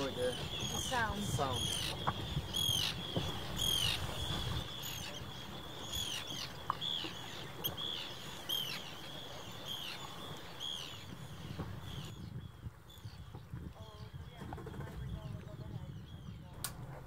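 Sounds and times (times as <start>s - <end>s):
seabird calling: 0.0s - 17.0s.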